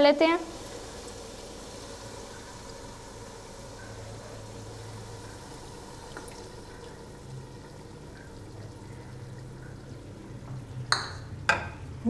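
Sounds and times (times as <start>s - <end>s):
sauce bubbling in a pot: 0.0s - 12.0s.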